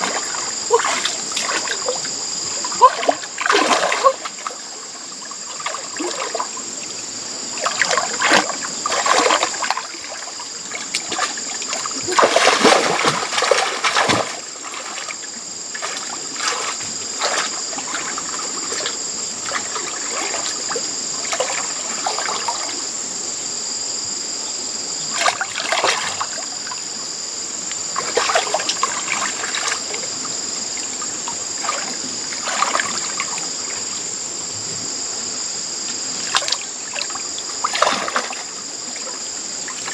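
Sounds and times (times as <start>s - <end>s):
muddy water splashing: 0.0s - 6.8s, 7.5s - 22.8s, 25.1s - 26.5s, 27.8s - 33.9s, 36.2s - 39.9s.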